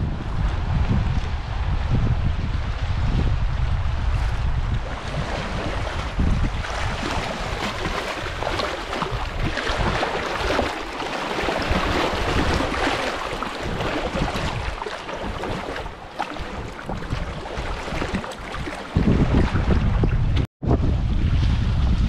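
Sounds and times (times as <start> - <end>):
water lapping over boulders: 0.0 - 22.0
wind rumbling on microphone: 0.0 - 22.0.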